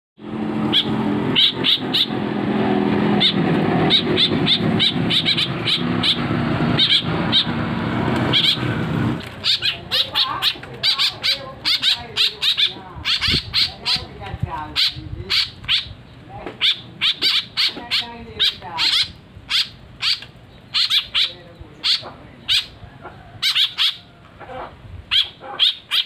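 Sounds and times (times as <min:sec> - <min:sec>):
fledgling birds begging calls: 0:00.2 - 0:26.0.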